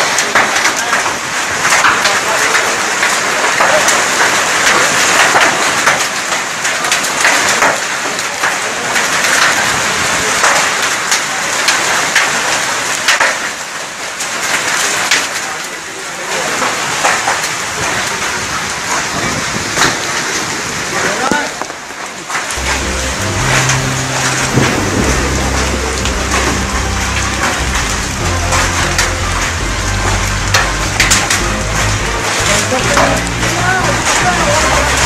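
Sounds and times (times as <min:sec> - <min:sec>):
heavy rain and hail: 0:00.0 - 0:35.0.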